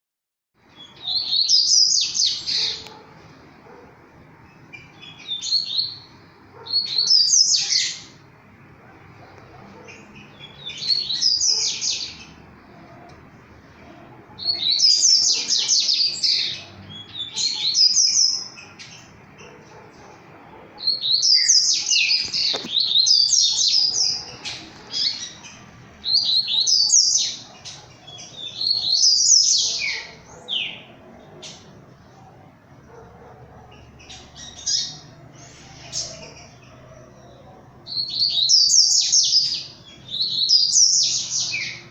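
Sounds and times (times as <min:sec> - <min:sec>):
songbird singing: 0:00.6 - 0:41.9.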